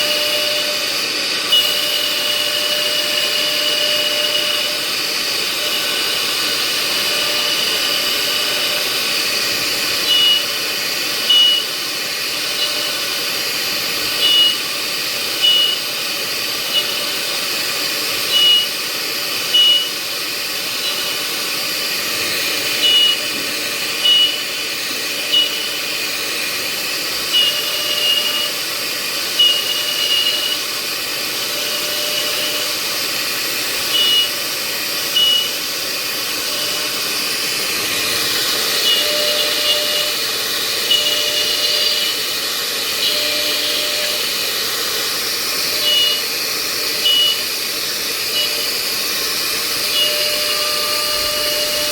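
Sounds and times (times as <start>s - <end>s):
cnc router hissing: 0.0s - 51.9s.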